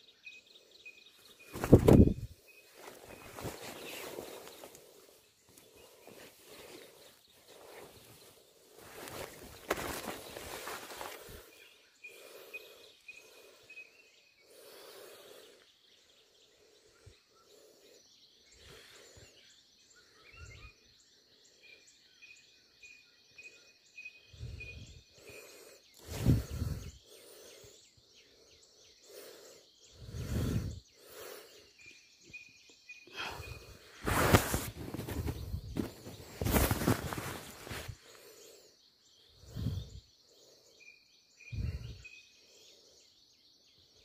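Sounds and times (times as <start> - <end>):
faint chirps: 0.0 - 44.0.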